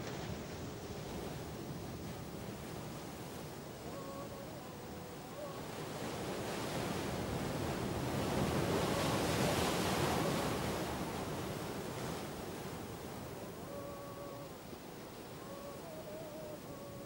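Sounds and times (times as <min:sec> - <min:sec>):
sea surf waves: 0:00.0 - 0:17.0.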